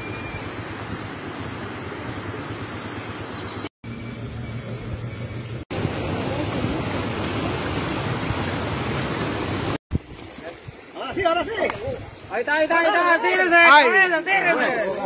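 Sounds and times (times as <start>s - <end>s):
floodwater rushing: 0.0s - 3.6s, 5.7s - 14.9s.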